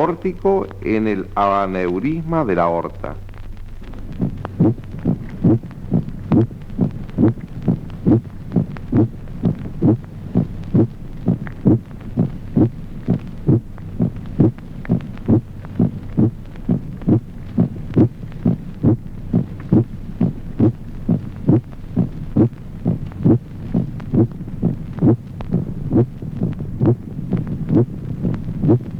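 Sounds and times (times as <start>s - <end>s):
heartbeat through stethoscope: 3.2s - 28.9s.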